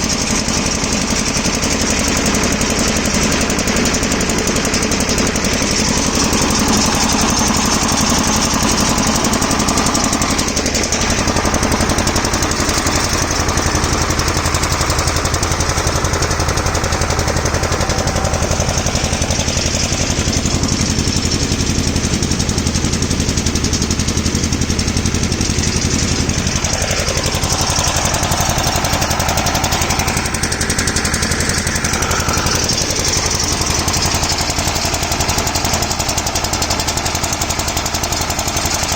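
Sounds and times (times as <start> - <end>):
harvesting machine engine running: 0.0 - 38.9.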